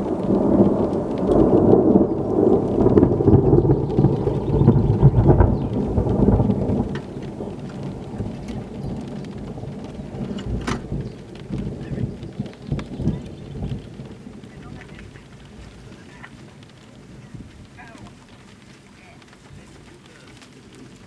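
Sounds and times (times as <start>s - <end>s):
thunder rumble: 0.0s - 21.0s.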